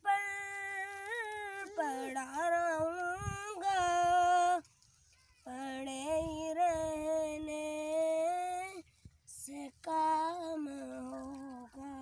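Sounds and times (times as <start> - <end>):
boy singing unaccompanied: 0.0 - 4.7, 5.4 - 12.0.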